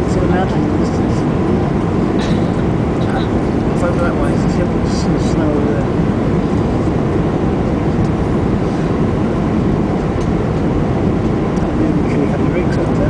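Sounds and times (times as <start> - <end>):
jet engines and airflow roaring: 0.0 - 13.0.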